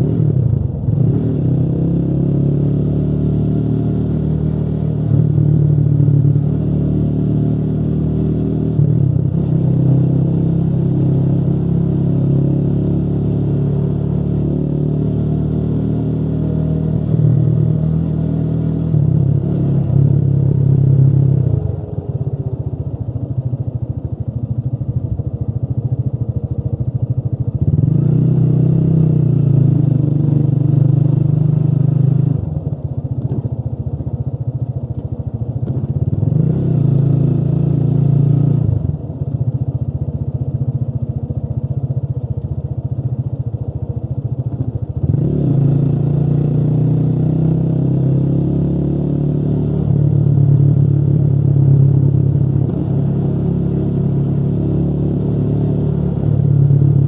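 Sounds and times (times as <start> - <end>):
motorcycle engine riding: 0.0 - 57.0.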